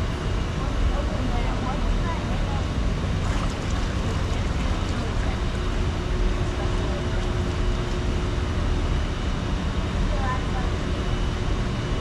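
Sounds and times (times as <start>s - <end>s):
ride boat gliding through water: 0.0s - 11.9s.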